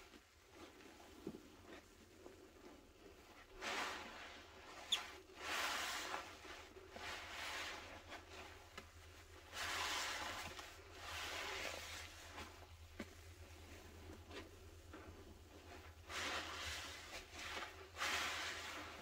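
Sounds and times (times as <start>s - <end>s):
sponge squelching with foam: 0.0s - 19.0s.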